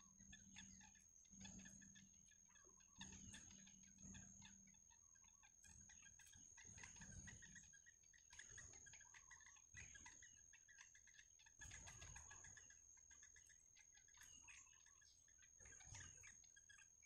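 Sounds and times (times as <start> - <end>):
bird chicks chirping rapidly: 0.0 - 17.0.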